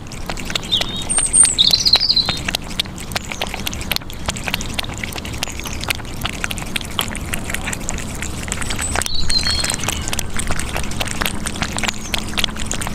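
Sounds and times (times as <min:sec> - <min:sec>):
kittens chewing and smacking: 0:00.0 - 0:12.9.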